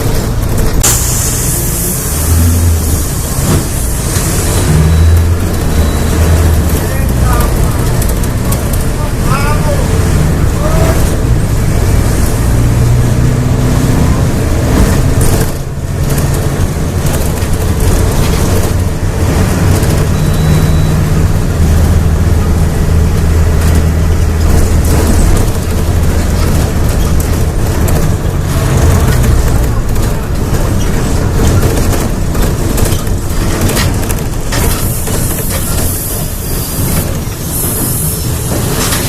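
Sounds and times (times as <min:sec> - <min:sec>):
bus diesel engine accelerating: 0:00.0 - 0:39.0.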